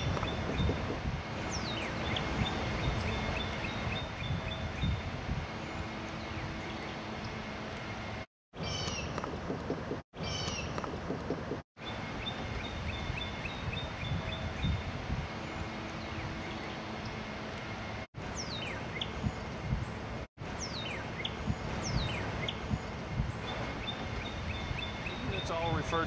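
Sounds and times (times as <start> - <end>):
low outdoor background noise: 0.0 - 26.0.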